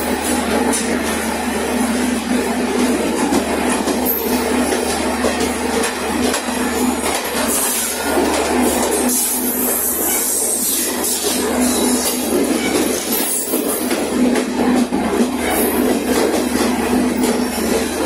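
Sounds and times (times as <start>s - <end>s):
train wheels rumbling on rail: 0.0s - 18.0s
wheels clicking over rail joints: 2.8s - 18.0s.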